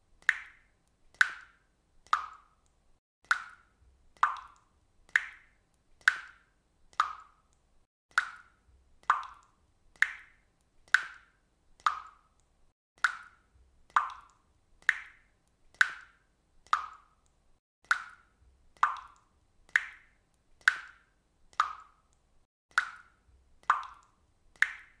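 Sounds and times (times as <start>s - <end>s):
faucet water dripping: 0.2s - 25.0s.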